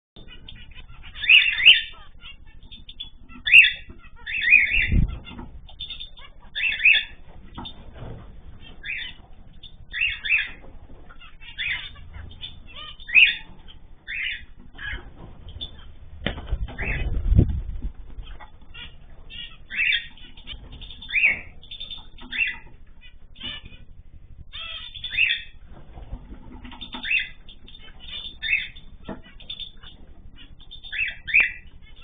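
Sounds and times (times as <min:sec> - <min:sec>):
pet birds chirping: 0:00.2 - 0:32.0.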